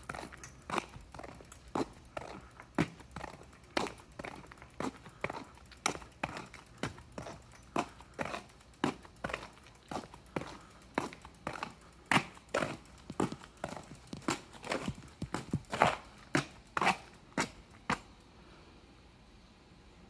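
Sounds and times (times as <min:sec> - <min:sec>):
footsteps on pavement: 0:00.0 - 0:18.1.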